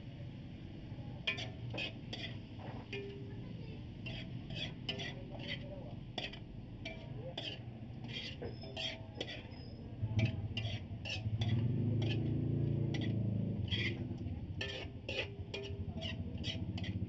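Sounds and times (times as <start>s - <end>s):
metal spatula scraping a wok: 1.2s - 17.0s.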